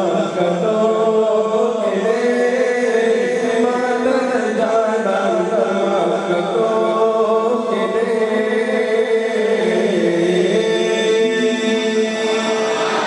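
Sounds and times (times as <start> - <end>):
men singing a hymn unaccompanied: 0.0 - 13.0.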